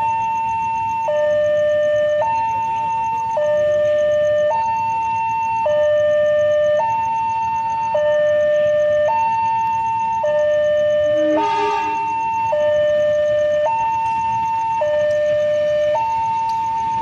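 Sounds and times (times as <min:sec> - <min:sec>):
level-crossing two-tone alarm: 0:00.0 - 0:17.0.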